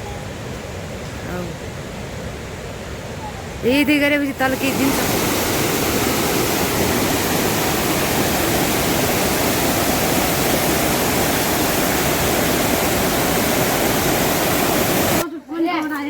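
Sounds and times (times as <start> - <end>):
water rushing: 0.0 - 15.3.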